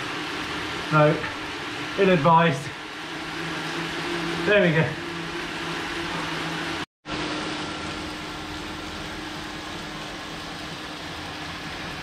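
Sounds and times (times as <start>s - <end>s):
bicycle tyres whirring on rollers: 0.0s - 12.0s.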